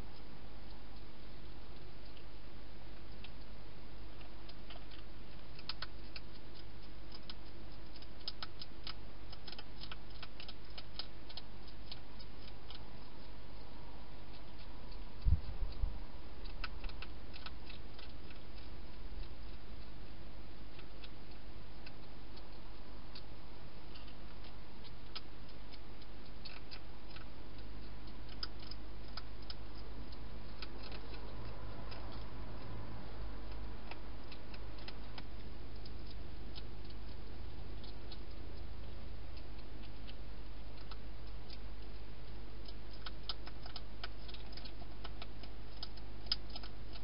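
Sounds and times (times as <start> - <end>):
hedgehog chewing clicks and crunches: 0.0 - 47.0
steady low hum: 0.0 - 47.0.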